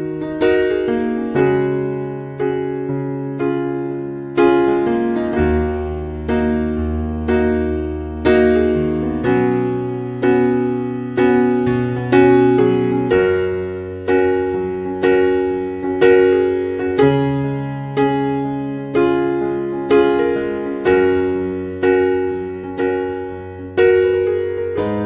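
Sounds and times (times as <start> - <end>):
electric piano slow chords: 0.0 - 25.0.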